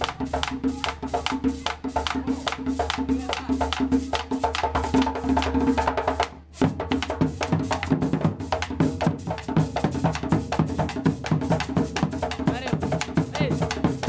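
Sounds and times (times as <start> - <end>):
music with fast drum beat: 0.0 - 14.0.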